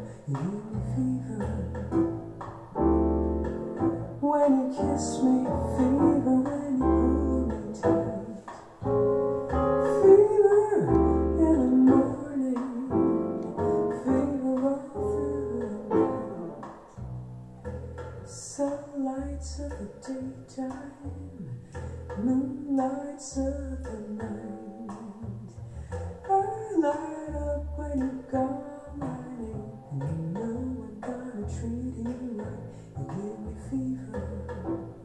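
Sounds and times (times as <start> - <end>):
piano-led music on loudspeakers: 0.0 - 35.0.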